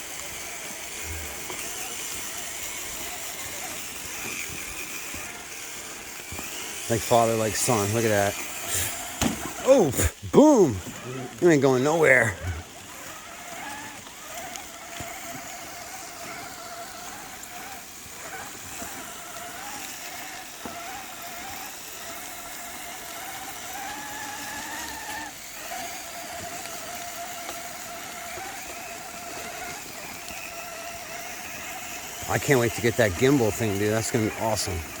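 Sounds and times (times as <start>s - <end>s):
electric motor and gearbox whining: 0.0s - 35.0s.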